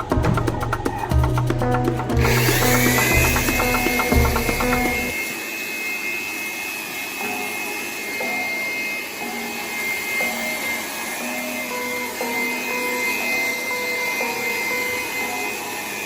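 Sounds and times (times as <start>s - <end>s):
power tool motor whining: 2.2s - 16.0s.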